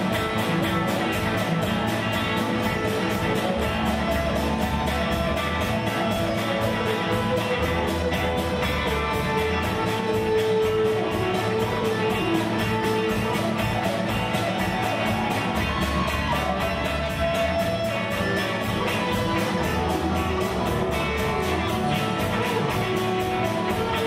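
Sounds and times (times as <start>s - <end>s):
guitar holding long notes: 0.0s - 24.0s
rock band playing: 0.0s - 24.0s.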